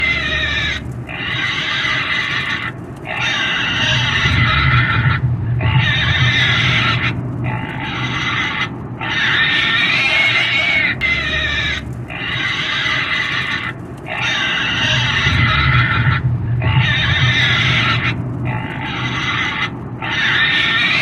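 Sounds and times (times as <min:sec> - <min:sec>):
pig squealing: 0:00.0 - 0:21.0
steady low hum: 0:00.0 - 0:21.0.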